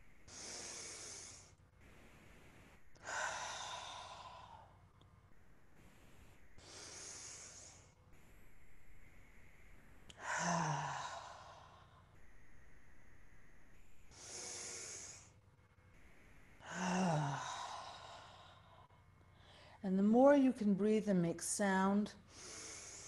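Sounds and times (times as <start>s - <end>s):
woman breathing deeply: 0.0s - 8.4s, 9.0s - 19.8s, 22.2s - 23.0s.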